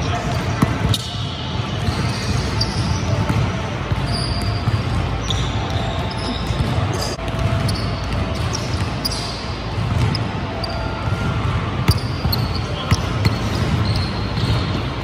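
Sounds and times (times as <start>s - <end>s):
basketball bouncing on gym floor: 0.2s - 1.2s, 1.8s - 10.4s, 11.0s - 15.0s
shoe squeaks: 0.3s - 3.4s, 4.0s - 11.2s, 11.9s - 14.9s.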